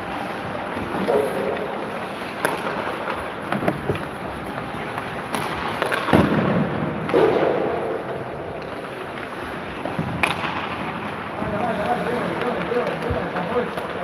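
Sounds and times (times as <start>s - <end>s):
skates scraping on ice: 0.0s - 14.0s
hockey sticks cracking against pucks: 0.1s - 14.0s
pucks banging against rink boards: 0.7s - 14.0s.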